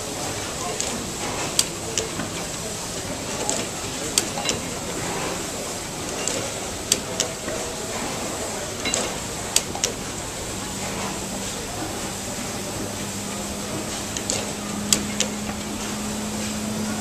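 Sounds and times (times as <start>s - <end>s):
engine mechanical clatter: 0.0s - 17.0s.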